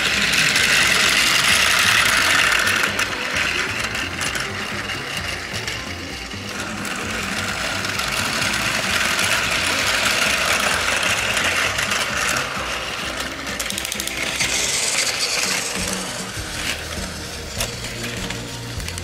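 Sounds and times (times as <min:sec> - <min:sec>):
toy train motor whirring: 0:00.0 - 0:19.0.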